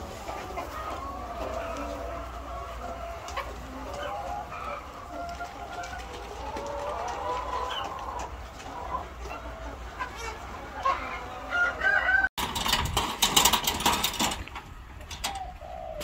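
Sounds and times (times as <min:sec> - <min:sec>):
hens clucking and calling: 0:00.0 - 0:16.0.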